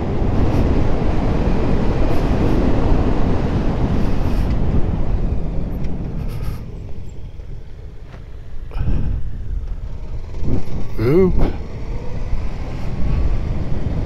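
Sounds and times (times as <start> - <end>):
motorcycle engine: 0.0 - 14.0
wind rush on microphone: 0.0 - 14.0.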